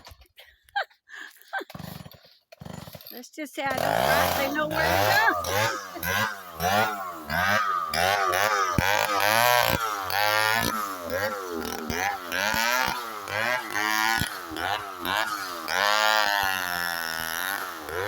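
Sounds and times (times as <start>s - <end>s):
chainsaw cutting through trunk: 1.5s - 18.0s.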